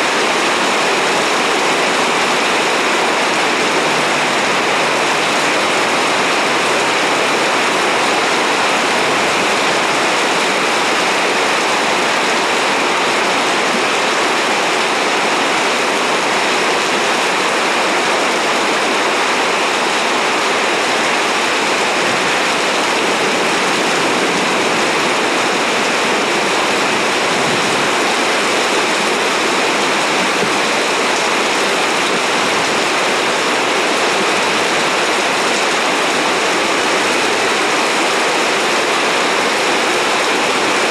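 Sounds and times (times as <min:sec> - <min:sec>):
heavy rain downpour: 0:00.0 - 0:40.9.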